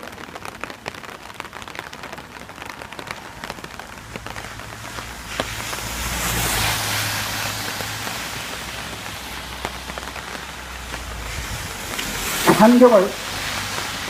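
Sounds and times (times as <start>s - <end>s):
rain drops ticking: 0.0s - 14.0s.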